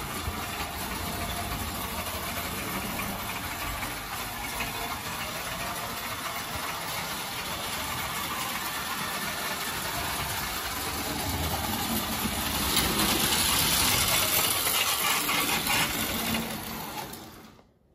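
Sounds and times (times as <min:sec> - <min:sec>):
toy train motor whir: 0:00.0 - 0:17.7
wheels rattling on metal track: 0:00.0 - 0:17.7.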